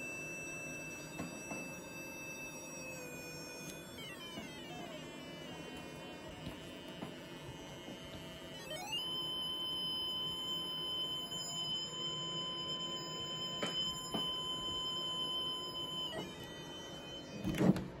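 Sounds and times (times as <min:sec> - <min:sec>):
steady electronic tone: 0:00.0 - 0:17.6.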